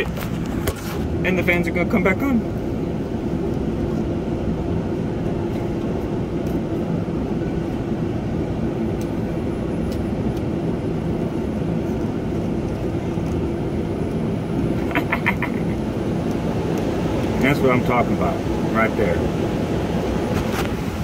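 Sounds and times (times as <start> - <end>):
fan motors humming: 0.0 - 21.0.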